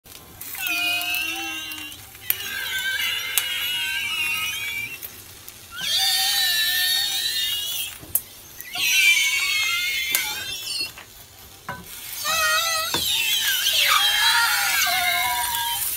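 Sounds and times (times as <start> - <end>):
food squealing in a frying pan: 0.4 - 15.9.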